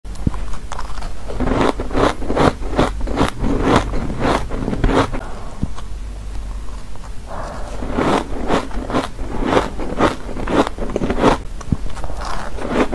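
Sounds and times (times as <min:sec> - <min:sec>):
ice being chewed: 0:00.2 - 0:05.2, 0:06.7 - 0:12.9.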